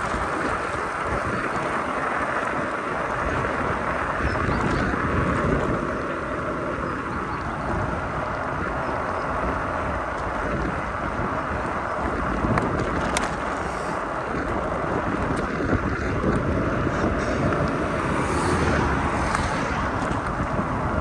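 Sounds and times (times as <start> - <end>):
bike tyres rolling: 0.0 - 21.0
wind buffeting microphone: 0.0 - 21.0.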